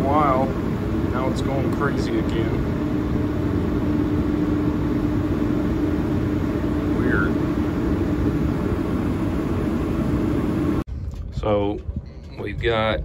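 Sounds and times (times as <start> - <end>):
air blower rushing: 0.0 - 10.9
steady hum: 0.0 - 13.0.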